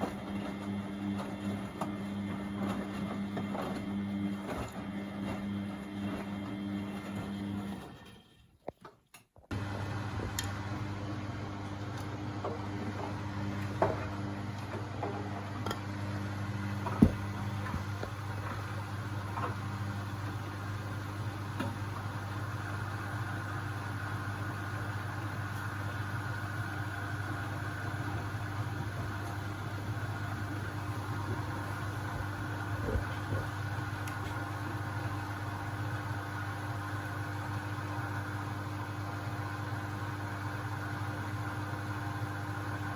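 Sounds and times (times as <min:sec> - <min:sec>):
washing machine spinning: 0:00.0 - 0:08.2, 0:09.5 - 0:42.9.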